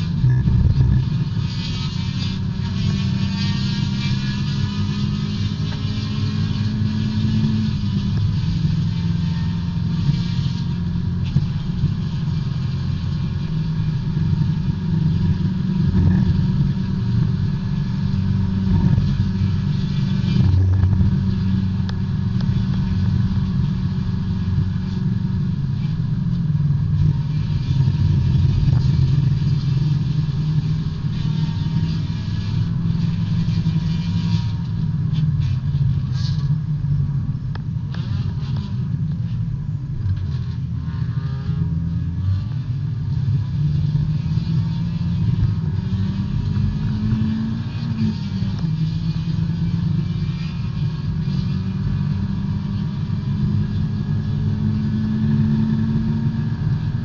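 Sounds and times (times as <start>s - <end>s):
race car engine from inside cabin: 0.0s - 57.0s.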